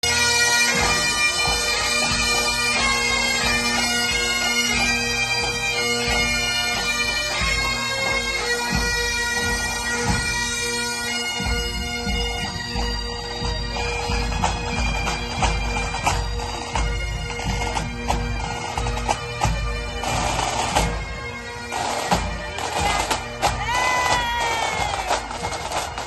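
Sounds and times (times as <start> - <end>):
bagpipes playing a melody: 0.0 - 26.0.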